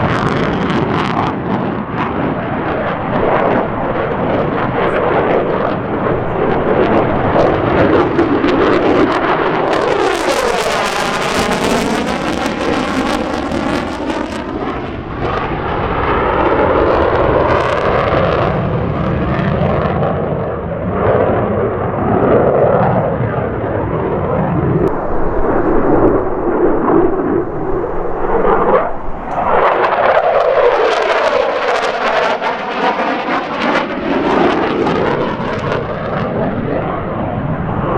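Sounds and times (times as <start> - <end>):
fighter jet engine roaring: 0.0 - 37.9.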